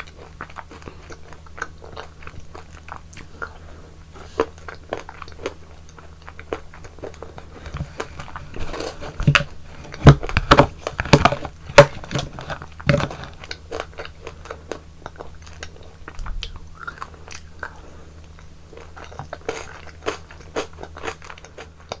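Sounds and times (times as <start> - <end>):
person eating and chewing: 0.0 - 22.0.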